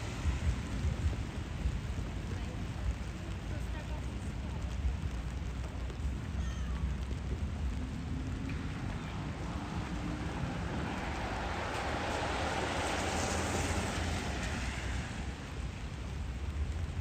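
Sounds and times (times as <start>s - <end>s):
low traffic rumble: 0.0s - 17.0s
rain patter: 0.0s - 17.0s
vehicle tyre hiss on wet road: 0.0s - 17.0s.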